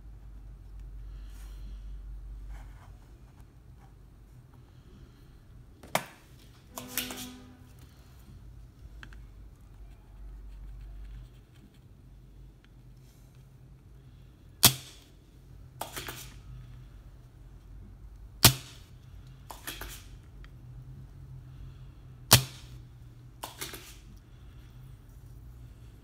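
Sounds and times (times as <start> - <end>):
steady low hum: 0.0 - 23.4, 24.0 - 26.0.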